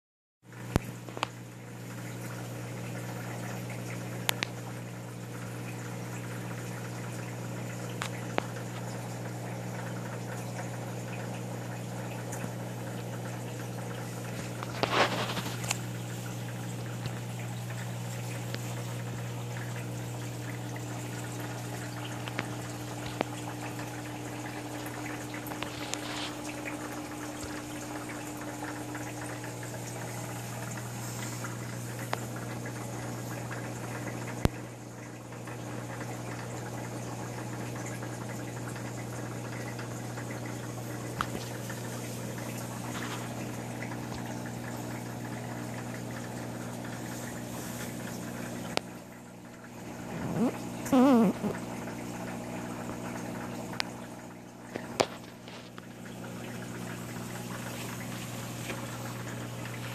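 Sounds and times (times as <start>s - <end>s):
aquarium pump hum: 0.5s - 59.9s
trickling bubbling water: 0.5s - 59.9s.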